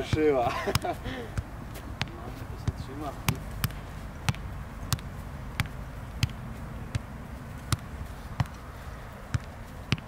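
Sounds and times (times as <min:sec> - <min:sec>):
football kicked thuds: 0:00.0 - 0:08.6, 0:09.3 - 0:10.0.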